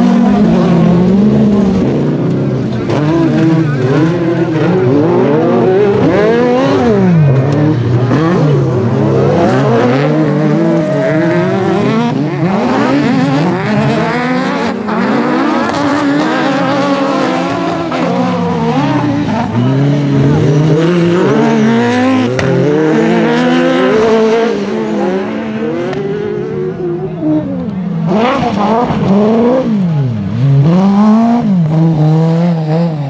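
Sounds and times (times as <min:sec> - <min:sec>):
buggy engines revving hard: 0:00.0 - 0:33.0.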